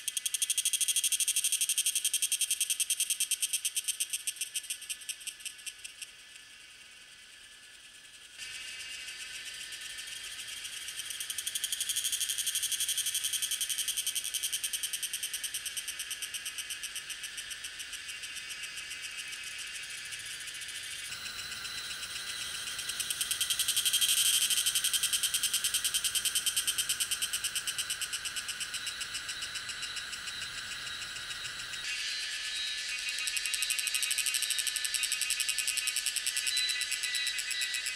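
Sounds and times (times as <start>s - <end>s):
cicadas buzzing: 0.0s - 37.9s.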